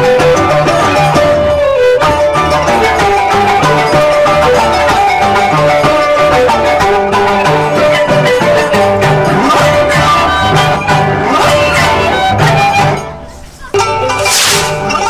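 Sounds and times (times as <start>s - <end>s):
folk music on violin and harp: 0.0s - 15.0s.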